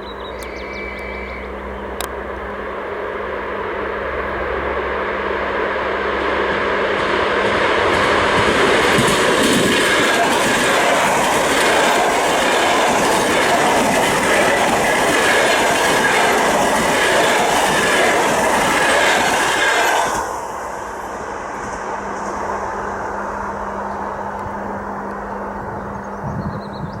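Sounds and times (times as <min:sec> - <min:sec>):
electric train passing at speed: 0:00.0 - 0:27.0.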